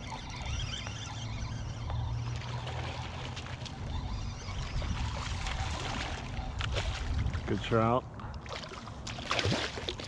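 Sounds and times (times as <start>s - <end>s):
wind rumble on microphone: 0.0s - 8.1s
water splashing and trickling: 0.6s - 10.0s.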